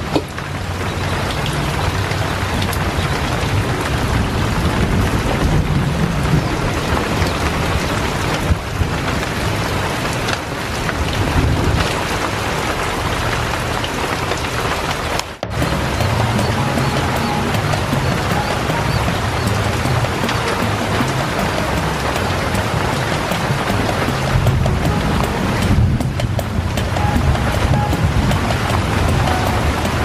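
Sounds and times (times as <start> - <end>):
heavy rain splashing into puddles: 0.0 - 30.0.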